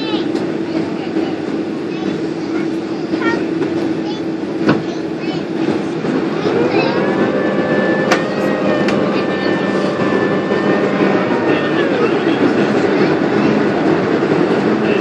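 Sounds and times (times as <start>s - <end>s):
heavy rumble: 0.0s - 15.0s
jet engine whine: 0.0s - 15.0s.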